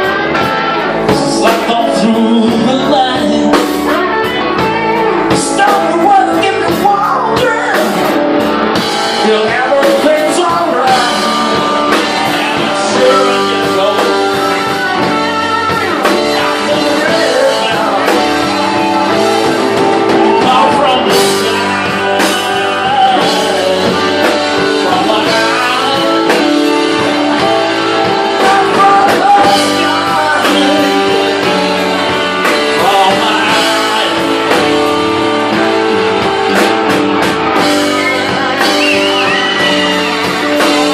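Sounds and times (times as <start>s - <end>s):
person singing: 0.0s - 8.2s, 8.8s - 40.9s
drum kit: 0.0s - 40.9s
electric guitar: 0.0s - 40.9s.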